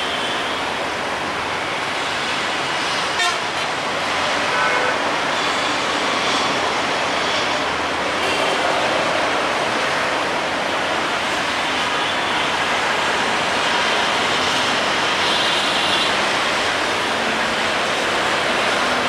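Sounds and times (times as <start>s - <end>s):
train rushing along track: 0.0s - 19.0s.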